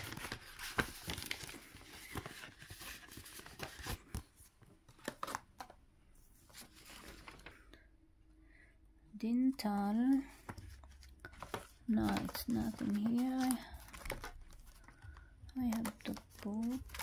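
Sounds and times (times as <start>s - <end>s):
paper rustling and crinkling: 0.0s - 7.8s, 9.5s - 17.0s.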